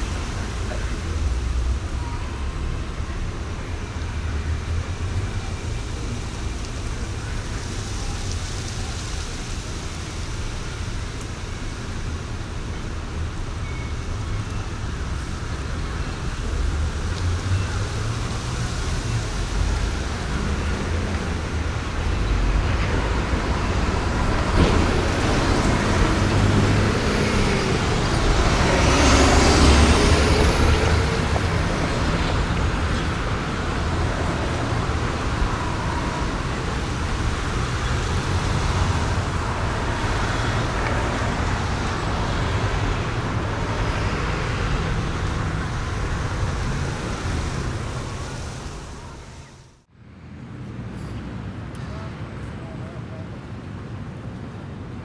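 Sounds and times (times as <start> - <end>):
car and bus engines: 0.0 - 55.0.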